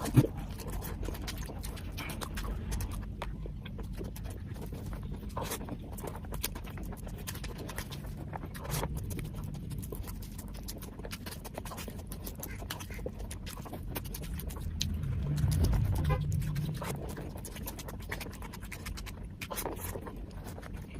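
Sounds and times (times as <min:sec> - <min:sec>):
chewing and lip-smacking: 0:00.0 - 0:20.9.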